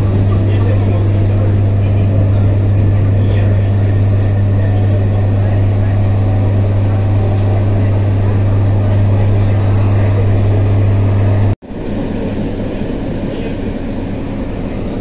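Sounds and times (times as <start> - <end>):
loud steady low hum: 0.0 - 15.0
rumble of moving train: 0.0 - 15.0.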